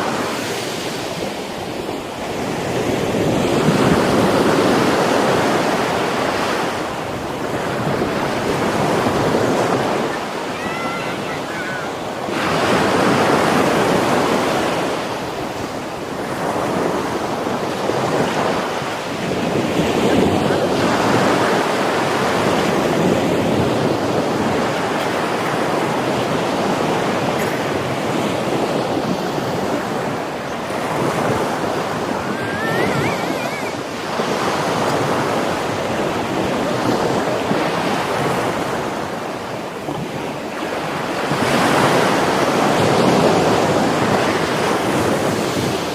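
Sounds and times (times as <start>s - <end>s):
surf breaking on shore: 0.0s - 45.9s
wind buffeting microphone: 0.0s - 45.9s.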